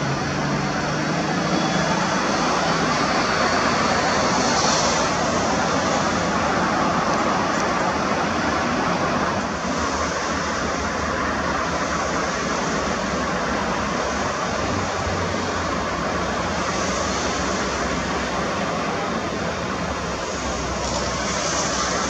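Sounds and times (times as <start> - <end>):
jet airliner engine rushing: 0.0 - 22.0.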